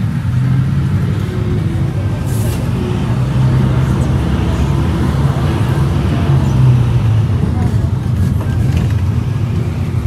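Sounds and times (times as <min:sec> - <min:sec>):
bus engine and road rumble: 0:00.0 - 0:10.0.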